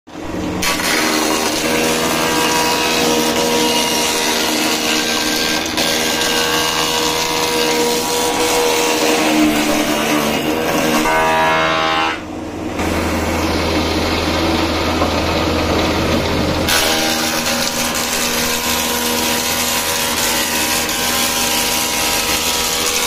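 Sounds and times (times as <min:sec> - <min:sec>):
planer machine whine: 0:00.1 - 0:23.0.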